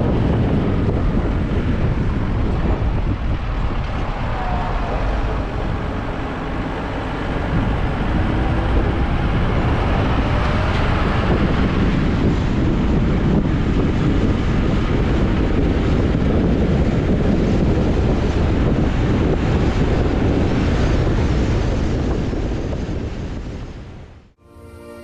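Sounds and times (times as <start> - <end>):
car road and wind rumble: 0.0 - 24.4.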